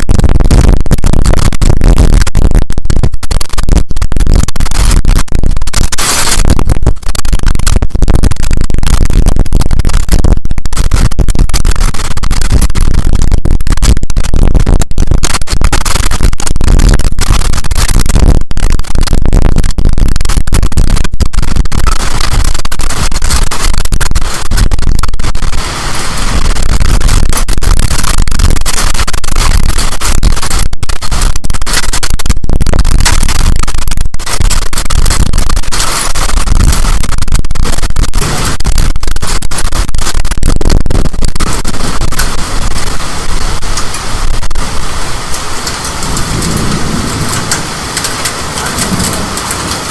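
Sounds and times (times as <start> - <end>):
strong wind blasting microphone: 0.0 - 49.9.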